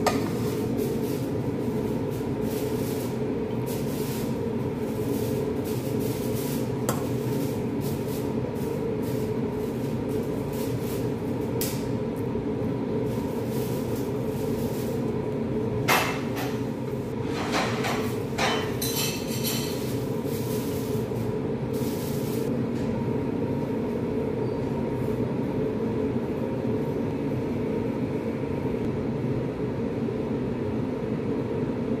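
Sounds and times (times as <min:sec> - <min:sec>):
mechanical hum with high tone: 0:00.0 - 0:32.0.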